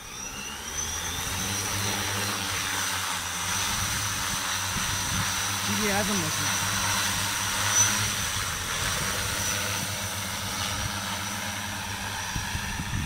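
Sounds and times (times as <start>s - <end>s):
drone motors and propellers humming: 0.0s - 13.0s.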